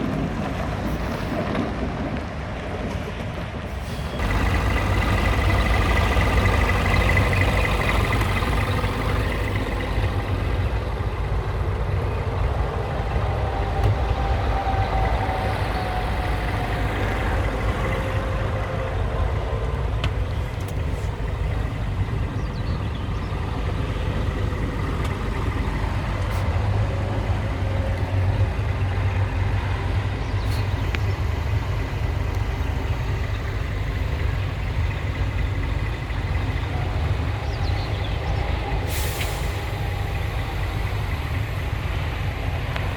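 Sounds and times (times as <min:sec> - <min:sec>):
truck diesel engine running: 0:03.6 - 0:42.9.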